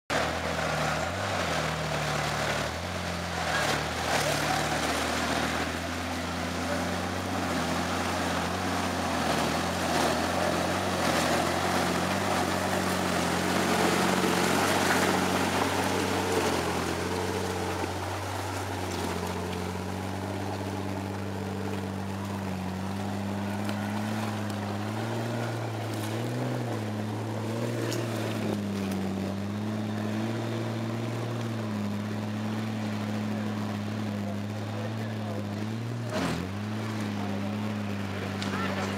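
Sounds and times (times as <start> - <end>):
engine revving under load: 0.1 - 38.9.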